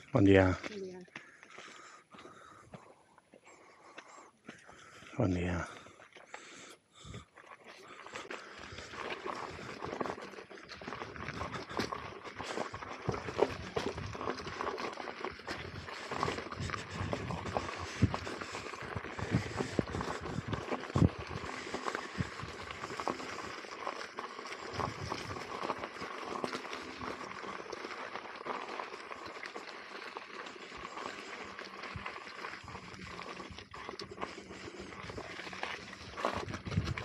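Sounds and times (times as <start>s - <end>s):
tyre crunching on stony dirt: 0.0s - 37.0s.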